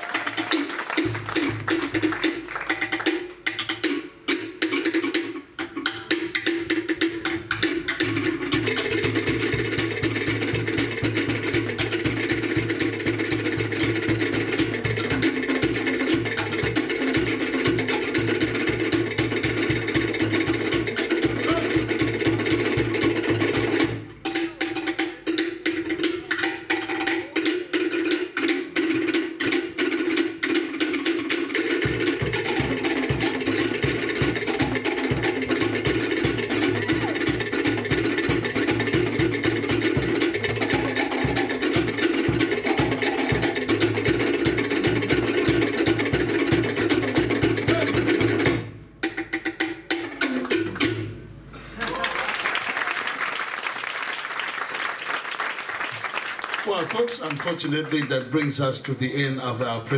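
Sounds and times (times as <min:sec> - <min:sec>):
wooden slit drums playing: 0:00.0 - 0:52.1, 0:54.3 - 0:59.9.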